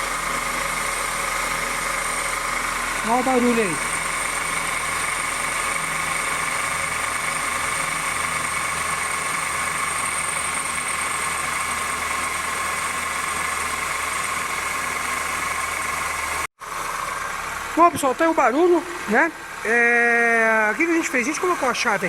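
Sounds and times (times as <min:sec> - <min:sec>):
car engine idling: 0:00.0 - 0:22.0
high-pitched belt drive whine: 0:00.0 - 0:22.0.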